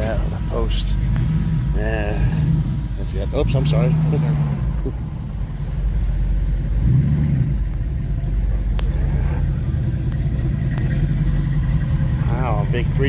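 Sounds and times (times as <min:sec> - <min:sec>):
car engine rumbling past: 0:00.0 - 0:13.0.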